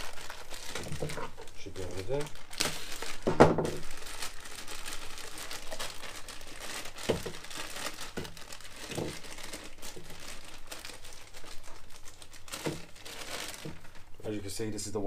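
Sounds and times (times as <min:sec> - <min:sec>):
plastic hoses crinkling and clicking: 0:00.0 - 0:14.4.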